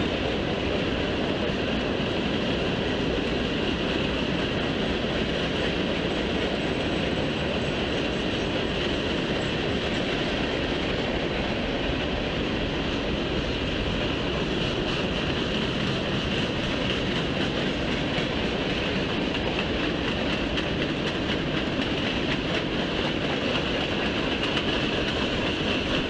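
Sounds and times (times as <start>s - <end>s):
train wheels rolling on rail: 0.0s - 26.0s.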